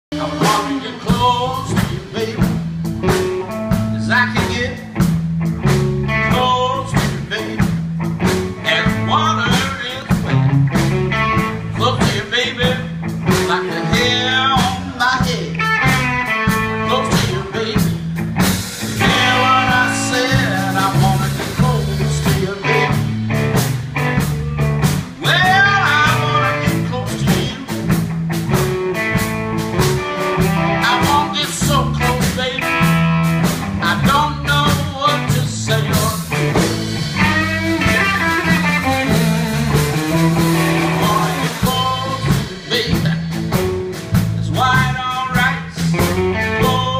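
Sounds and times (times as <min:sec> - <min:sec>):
bass line: 0:00.0 - 0:46.9
drum kit: 0:00.1 - 0:46.9
electric guitar: 0:00.1 - 0:46.9.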